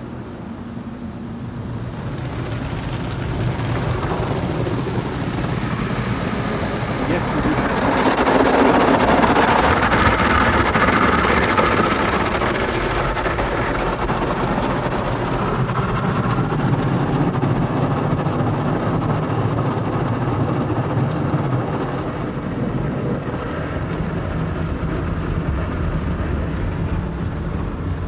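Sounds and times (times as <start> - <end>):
low drone: 0.0 - 28.0.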